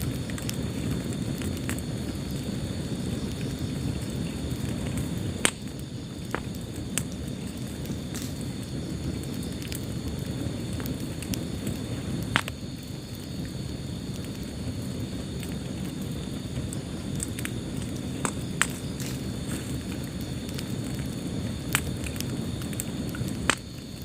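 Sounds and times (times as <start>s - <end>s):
fire crackling and popping: 0.0s - 24.0s
flame rushing: 0.0s - 24.0s.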